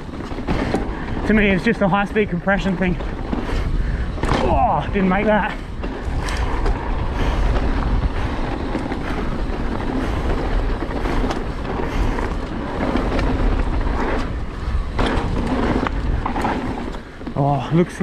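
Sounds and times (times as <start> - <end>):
wind noise on microphone: 0.0 - 17.4
bike tyres rumbling over dirt: 0.0 - 18.0.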